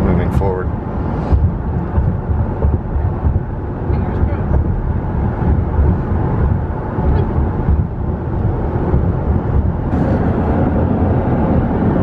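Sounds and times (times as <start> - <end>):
car road noise at highway speed: 0.0 - 12.0.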